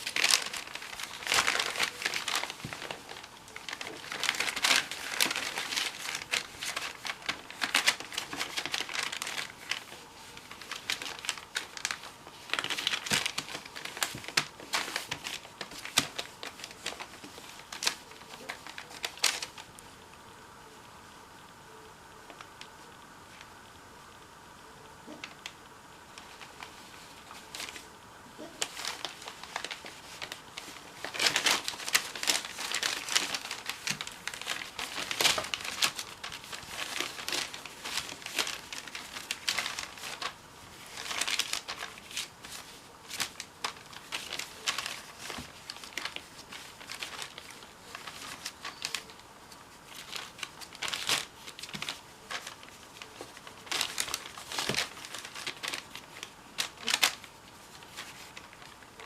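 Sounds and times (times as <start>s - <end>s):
rustling and crinkling: 0.0s - 59.0s.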